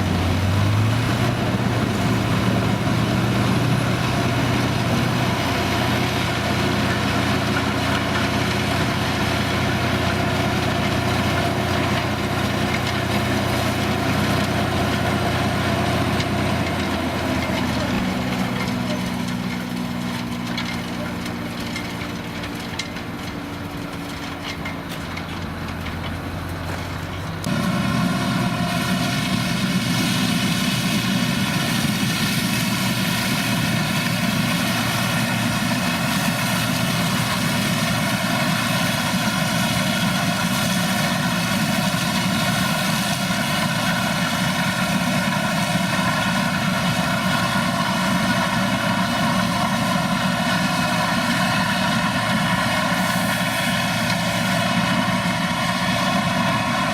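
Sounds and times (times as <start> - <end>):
heavy farm machinery drone: 0.0 - 56.9.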